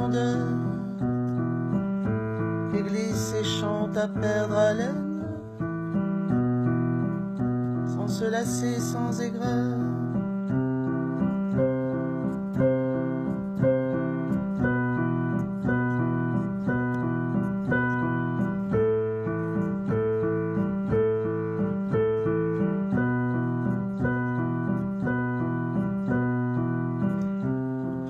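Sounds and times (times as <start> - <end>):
keyboard playing repeated chords: 0.0 - 28.0.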